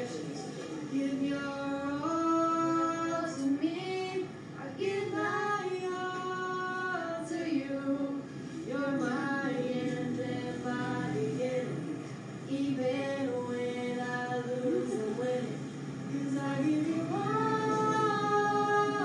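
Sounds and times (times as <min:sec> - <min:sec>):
woman singing slowly: 0:00.9 - 0:11.9, 0:12.5 - 0:19.0.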